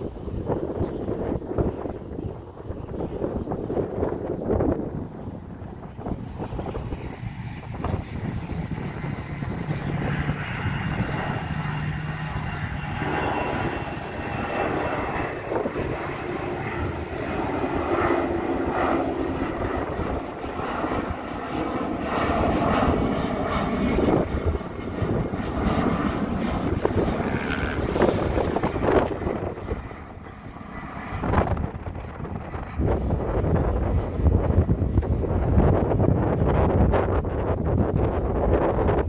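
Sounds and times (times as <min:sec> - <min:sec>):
jet engine rumble at takeoff: 0:00.0 - 0:39.0.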